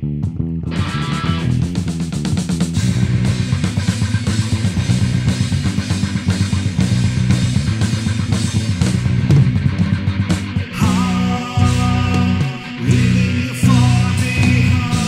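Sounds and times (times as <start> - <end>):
bass guitar: 0.0 - 15.0
electric guitar: 0.0 - 15.0
drum kit beat: 0.2 - 15.0.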